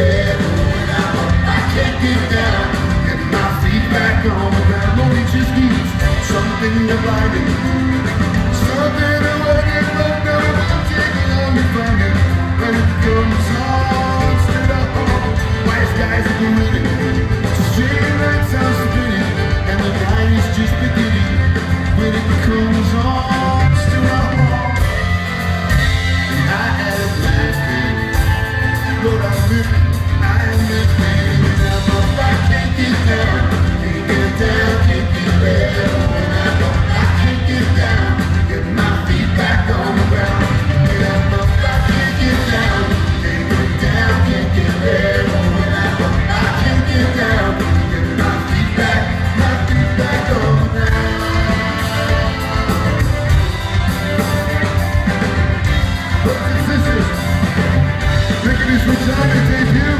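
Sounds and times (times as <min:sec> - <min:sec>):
live folk-rock band: 0:00.0 - 0:59.9.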